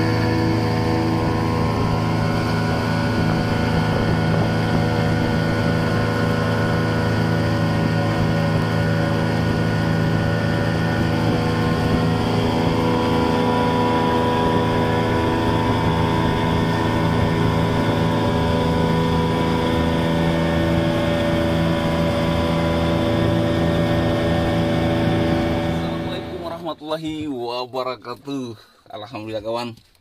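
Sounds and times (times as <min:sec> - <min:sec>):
boat engine droning: 0:00.0 - 0:26.9
water rushing along hull: 0:00.0 - 0:27.2.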